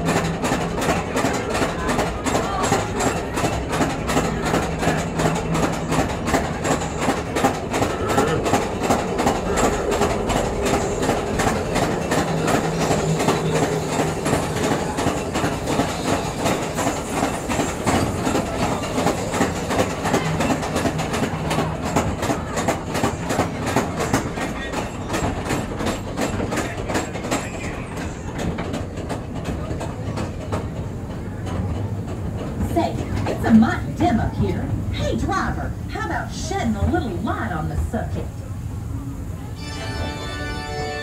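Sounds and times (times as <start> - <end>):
train wheels clattering on rails: 0.0 - 39.4.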